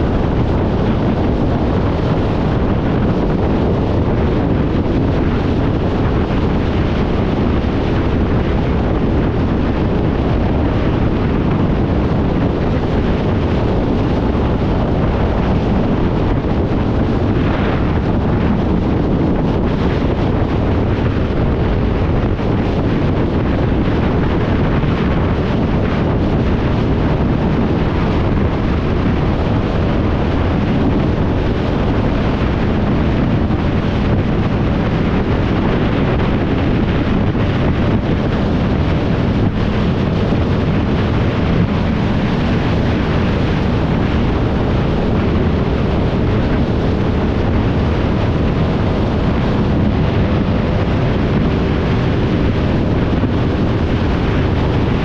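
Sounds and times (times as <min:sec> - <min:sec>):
faint motorcycle engine hum: 0:00.0 - 0:55.0
wind rush on microphone: 0:00.0 - 0:55.0.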